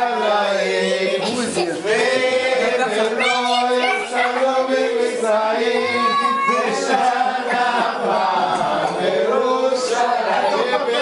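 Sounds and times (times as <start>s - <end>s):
group singing in unison: 0.0s - 11.0s.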